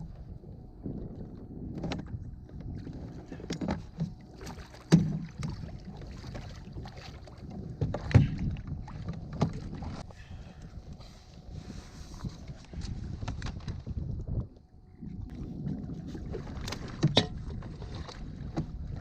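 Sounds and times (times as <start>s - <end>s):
knocks and clatter on a kayak: 0.0s - 10.1s, 12.1s - 19.0s.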